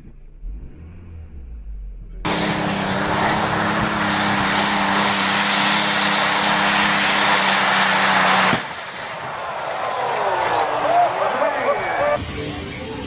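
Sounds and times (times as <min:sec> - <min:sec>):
diesel engine at full throttle: 0:00.0 - 0:13.0.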